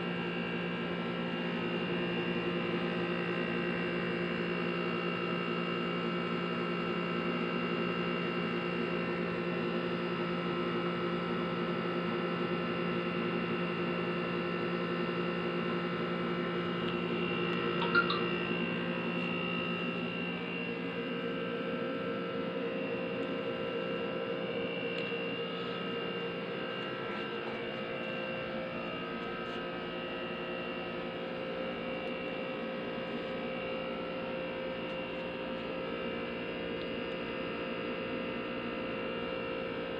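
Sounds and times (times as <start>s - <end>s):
appliances electric hum: 0.0s - 39.9s.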